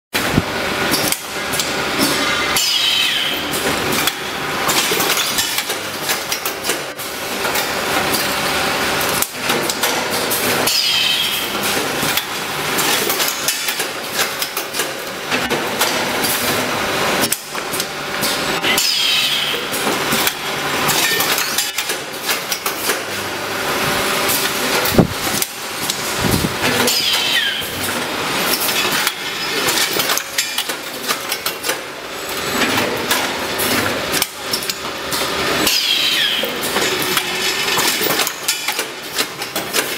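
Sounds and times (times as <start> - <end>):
packing machine clattering: 0.2 - 23.2, 24.0 - 39.9.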